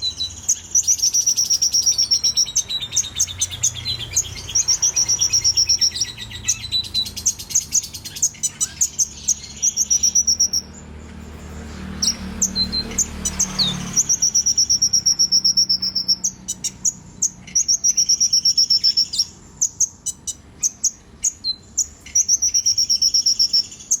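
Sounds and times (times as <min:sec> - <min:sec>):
young songbird singing: 0:00.0 - 0:24.0.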